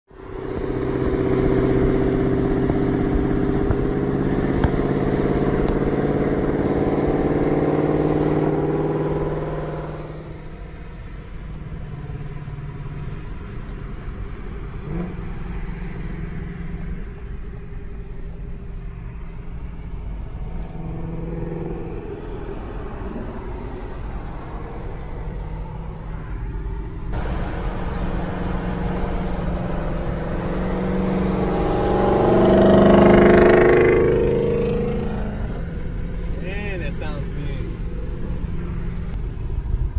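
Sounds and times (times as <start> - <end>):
road and tyre noise: 0.0 - 39.9
car exhaust drone: 0.1 - 39.9.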